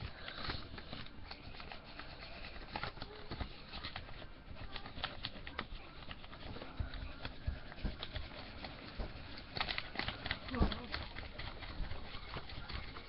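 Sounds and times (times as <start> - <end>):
crayon scratching on paper: 0.0 - 13.0.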